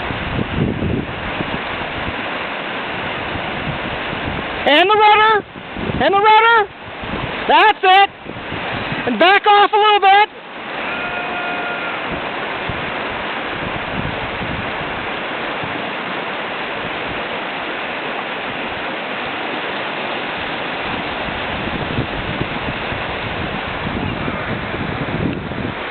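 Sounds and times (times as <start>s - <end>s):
river rapids rushing: 0.0s - 25.9s.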